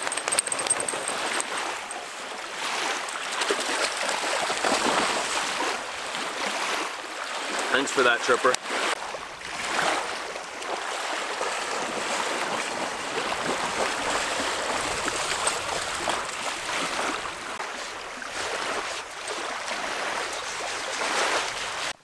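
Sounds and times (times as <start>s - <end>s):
dog splashing in water: 0.0s - 7.7s, 9.5s - 21.9s
small waves lapping on sand: 1.2s - 22.0s.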